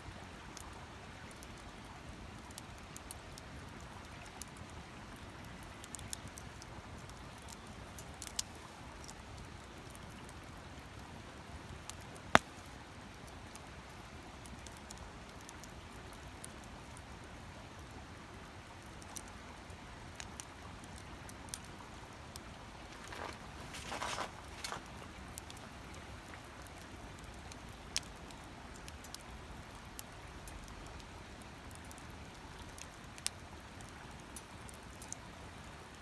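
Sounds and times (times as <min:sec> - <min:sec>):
campfire crackling: 0:00.1 - 0:36.0.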